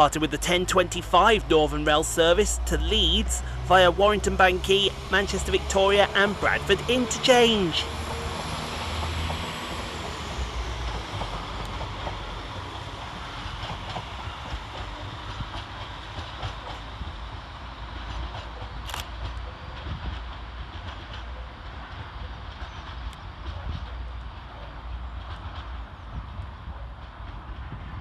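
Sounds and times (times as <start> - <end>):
train engine rumble: 0.0 - 28.0.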